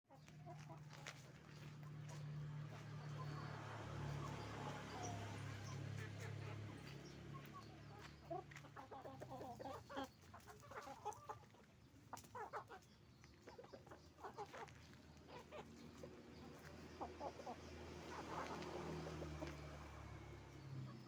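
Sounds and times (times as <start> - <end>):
chickens clucking: 0.1 - 21.0.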